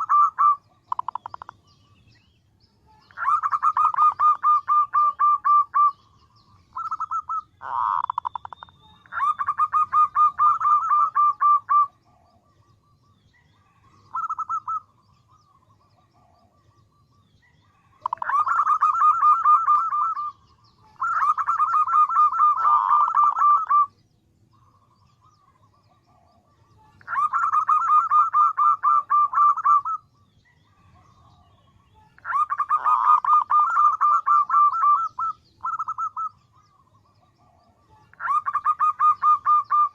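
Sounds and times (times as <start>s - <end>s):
dove calling: 0.0s - 39.9s.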